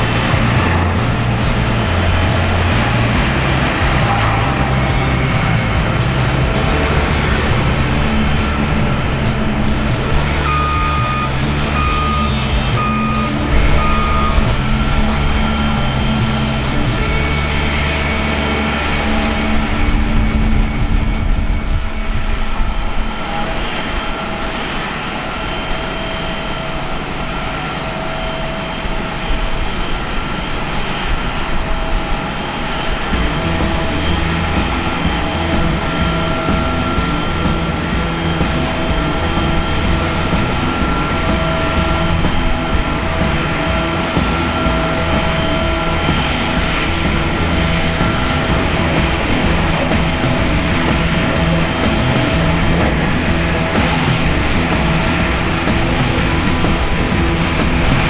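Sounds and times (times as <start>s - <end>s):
deep rumble: 0.0s - 24.3s, 33.1s - 58.0s
jet engines whining: 0.0s - 58.0s.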